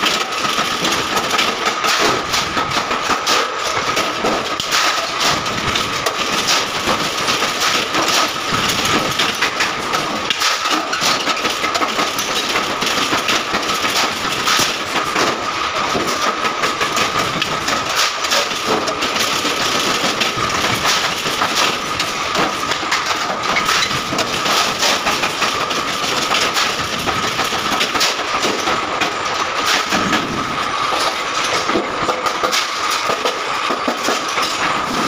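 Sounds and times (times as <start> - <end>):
factory machinery noise: 0.0 - 35.0.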